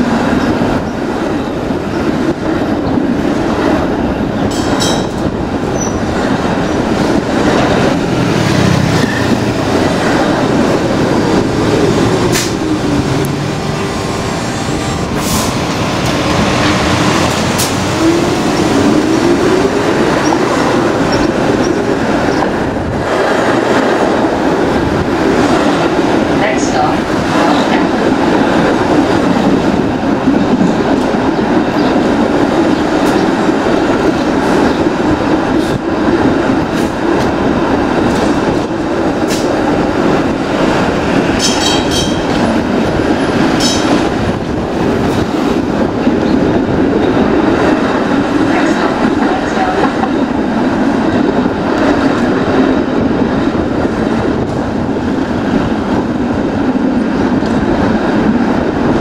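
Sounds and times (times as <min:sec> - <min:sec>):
streetcar rumble and rattle: 0:00.0 - 0:59.0.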